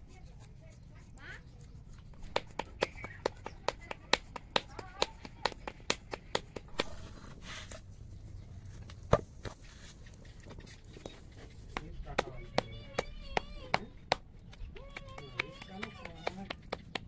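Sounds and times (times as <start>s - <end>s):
palms slapping dough: 1.0s - 7.8s, 8.8s - 17.0s.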